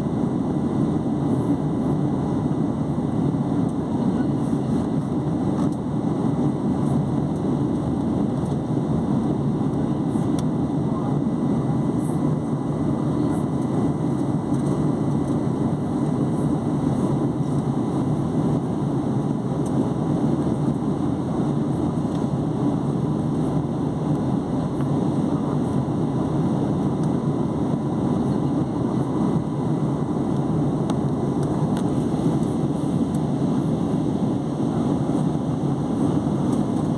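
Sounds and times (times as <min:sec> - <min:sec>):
airliner engines roaring: 0:00.0 - 0:36.9.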